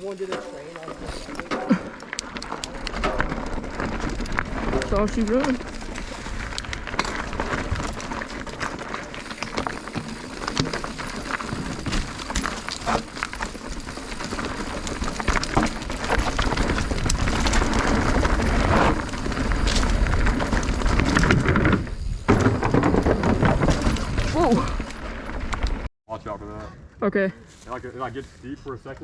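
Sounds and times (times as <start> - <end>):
tyres crunching over rock and gravel: 0.0 - 25.7
bike clicks and knocks: 0.0 - 25.9.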